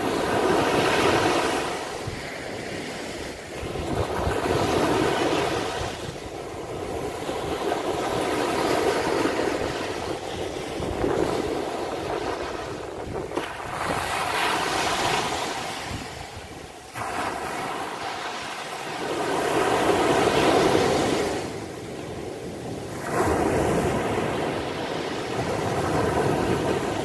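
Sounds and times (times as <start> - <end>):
waves breaking on sandy beach: 0.0 - 27.0.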